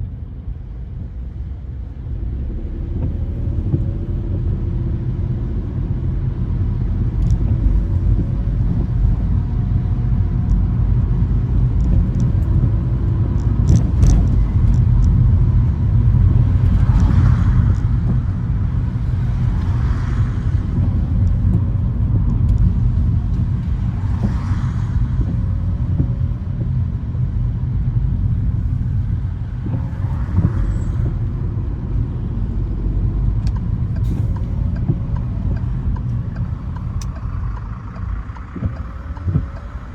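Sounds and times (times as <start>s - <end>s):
car road and engine rumble: 0.0s - 39.9s
tyres swishing on wet road: 0.1s - 39.9s.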